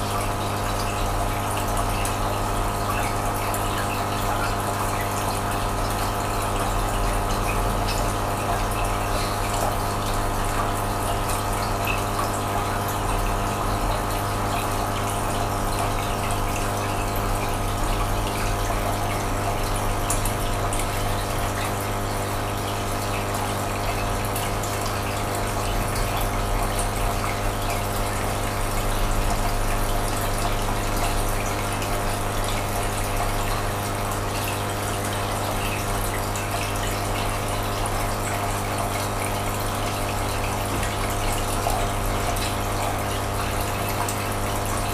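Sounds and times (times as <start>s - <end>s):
aquarium pump humming: 0.0s - 44.9s
water running and bubbling: 0.0s - 44.9s.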